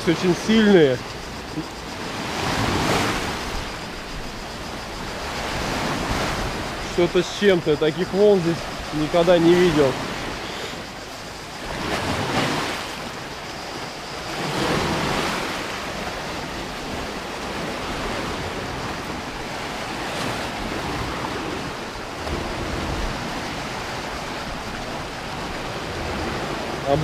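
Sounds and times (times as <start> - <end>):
waves breaking over rocks: 0.0 - 27.0.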